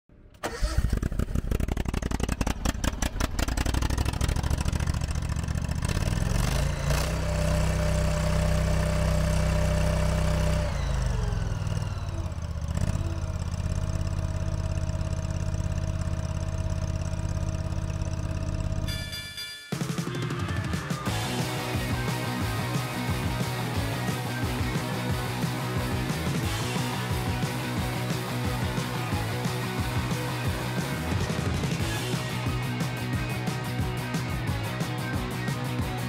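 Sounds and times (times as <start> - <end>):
gas engine running rough: 0.4 - 18.9, 20.2 - 36.0.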